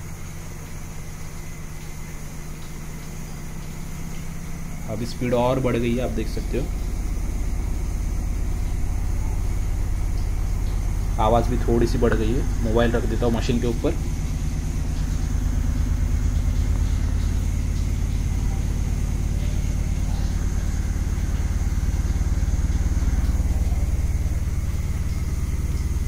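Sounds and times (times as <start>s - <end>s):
washing machine spinning hum: 0.0s - 26.0s.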